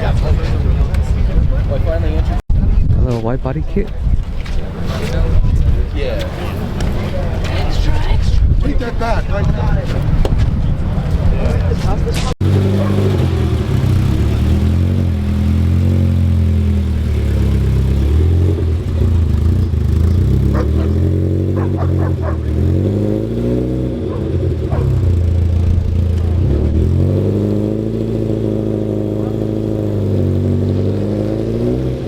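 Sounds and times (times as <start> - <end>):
car engine idling and revving: 3.8 - 32.0.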